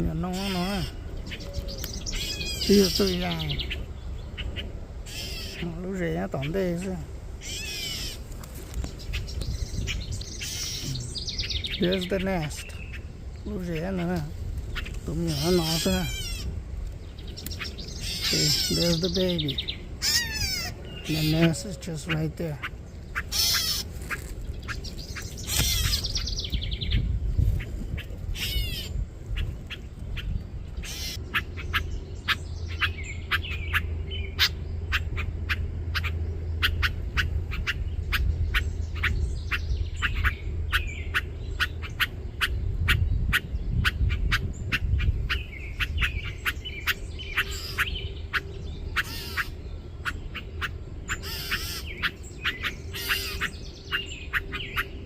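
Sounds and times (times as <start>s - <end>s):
higher bird chirps: 0.0s - 27.2s, 27.9s - 55.0s
low rumble: 0.0s - 55.0s
songbird alarm calls: 0.0s - 55.0s.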